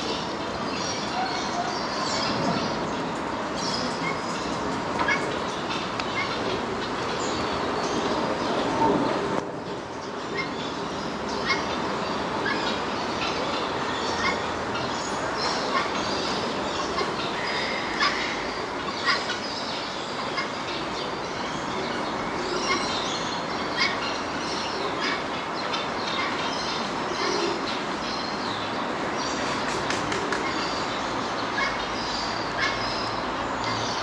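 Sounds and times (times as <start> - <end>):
city rumble: 0.0 - 34.0.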